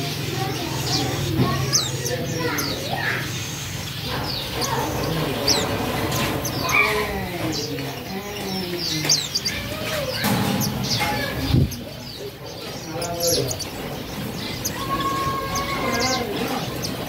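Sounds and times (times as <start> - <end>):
finches chirping: 0.0 - 17.0
people's voices in background: 0.0 - 17.0.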